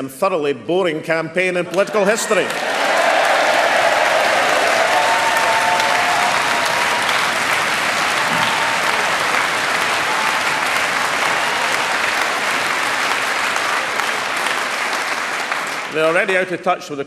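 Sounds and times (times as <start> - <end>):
large audience applauding: 1.8 - 16.6.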